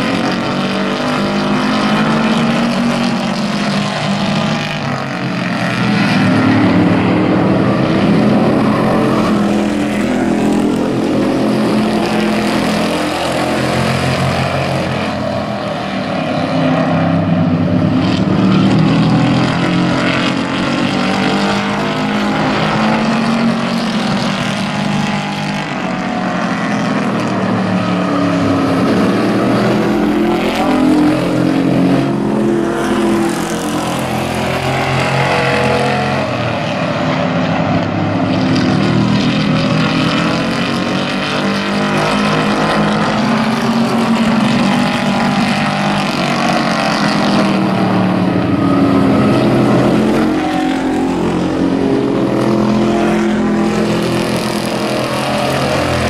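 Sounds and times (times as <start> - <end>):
racing truck engines: 0.0 - 56.0.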